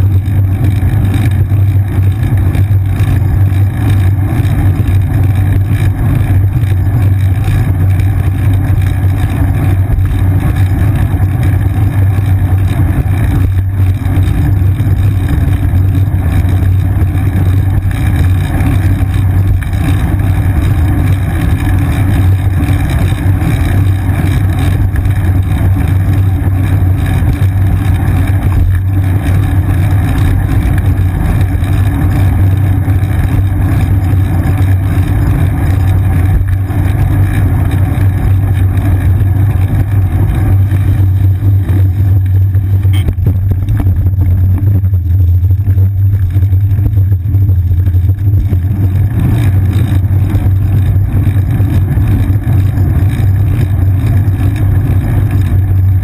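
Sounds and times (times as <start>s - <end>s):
wind and road vibration hum: 0.0s - 56.0s.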